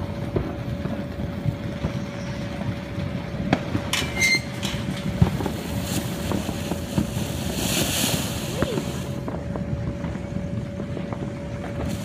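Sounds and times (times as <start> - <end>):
firework hissing and whistling: 0.0 - 12.0
firework sparks crackling: 0.0 - 12.0
steady low rumble: 0.0 - 12.0.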